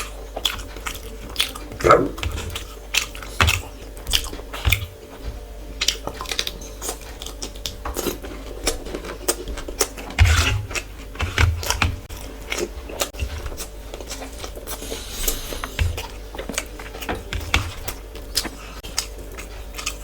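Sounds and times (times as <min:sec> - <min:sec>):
chewing and crunching: 0:00.0 - 0:20.0.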